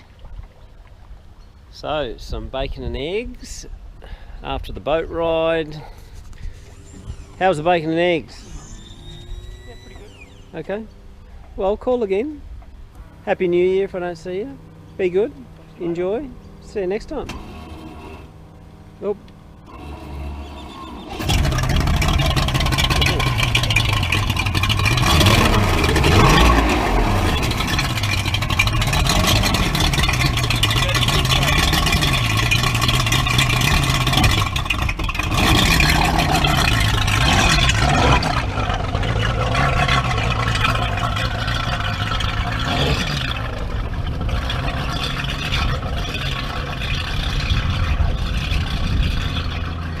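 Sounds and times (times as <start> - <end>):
speedboat engine running: 0.0 - 50.0.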